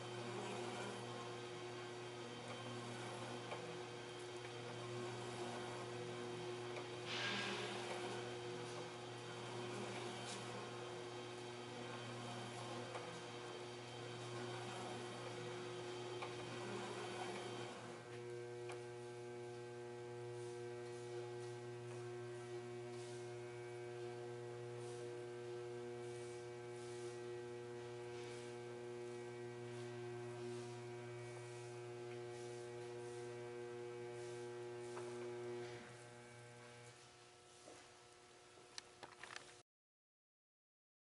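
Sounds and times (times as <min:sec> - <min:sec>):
electric motor hum: 0:00.0 - 0:39.6.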